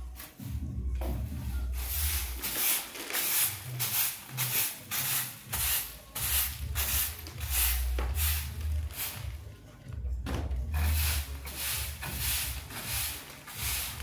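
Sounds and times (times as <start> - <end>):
broom sweeping concrete floor: 0.0 - 9.4, 10.4 - 14.0.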